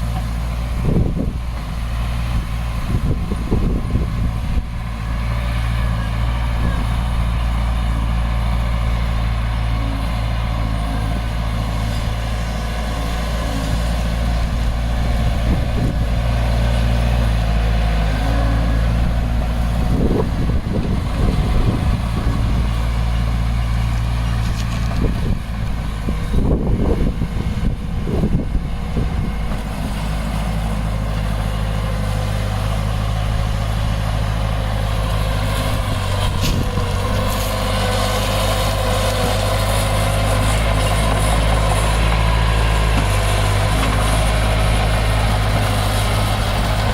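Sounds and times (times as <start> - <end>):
diesel machinery engine drone: 0.0 - 46.9.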